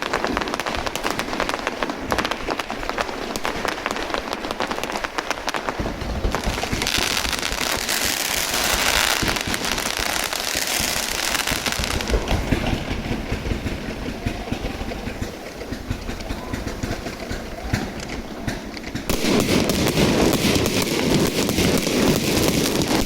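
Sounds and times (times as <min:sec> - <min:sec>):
fireworks hissing crackle: 0:00.0 - 0:23.0
fireworks pops and bangs: 0:00.0 - 0:23.0.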